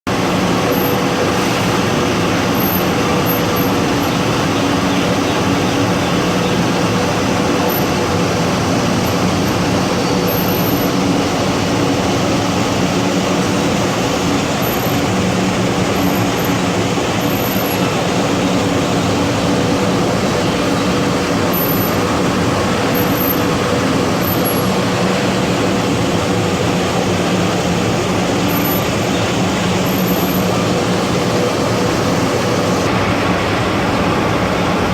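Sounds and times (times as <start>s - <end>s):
industrial furnace roar: 0.0s - 34.9s.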